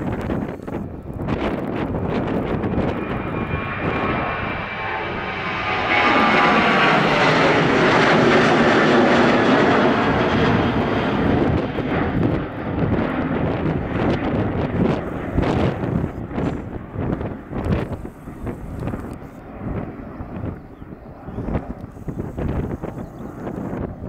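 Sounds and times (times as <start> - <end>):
jet engines at takeoff thrust: 0.0 - 24.0.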